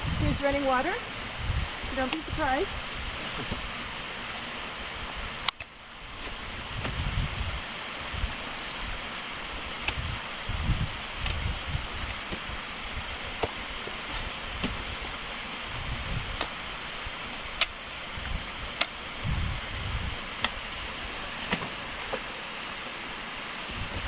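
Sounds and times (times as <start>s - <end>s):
wind rumbling on microphone: 0.0s - 22.0s, 23.5s - 24.0s
steady rushing hiss: 0.0s - 24.0s.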